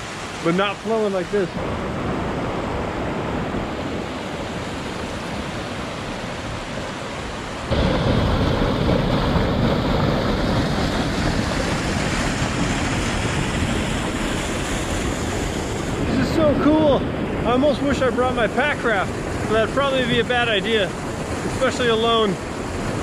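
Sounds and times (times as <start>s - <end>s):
water rushing roar: 0.0s - 23.0s.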